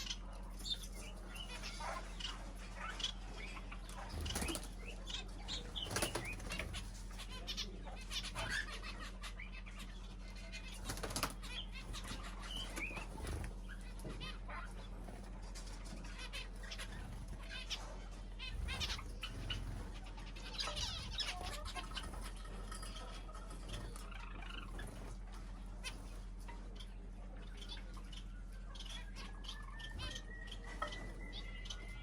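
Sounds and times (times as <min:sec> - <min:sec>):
wing flutters: 0:00.0 - 0:08.9, 0:09.7 - 0:32.0
small birds chirping: 0:00.0 - 0:32.0
steady low hum: 0:00.0 - 0:32.0.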